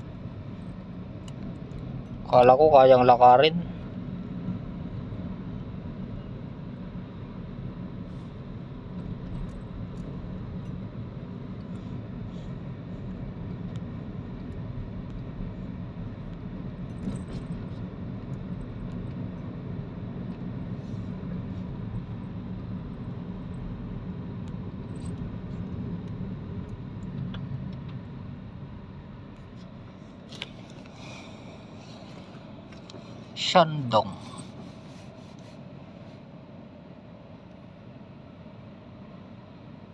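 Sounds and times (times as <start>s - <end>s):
road and engine rumble in car: 0.0s - 39.9s.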